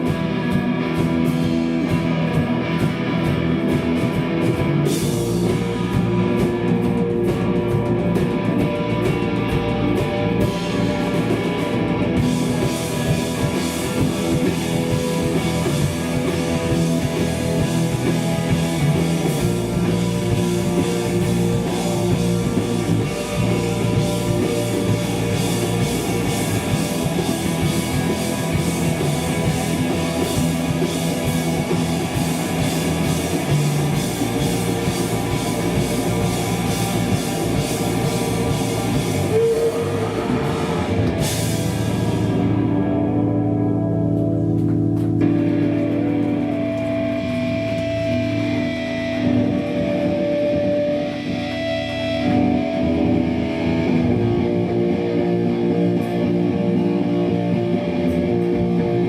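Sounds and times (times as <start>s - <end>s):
hardcore band playing live: 0.0s - 59.0s.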